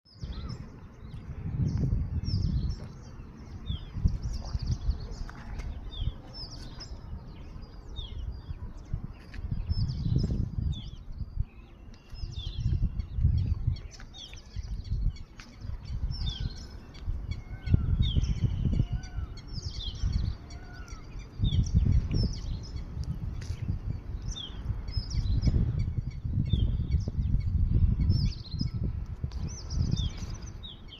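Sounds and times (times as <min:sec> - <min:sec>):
birds chirping: 0:00.1 - 0:30.9
wind rumbling on microphone: 0:00.1 - 0:30.9.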